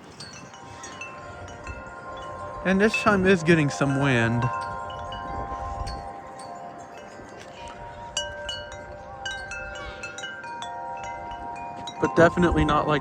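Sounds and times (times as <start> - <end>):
wind chime ringing: 0.0 - 13.0.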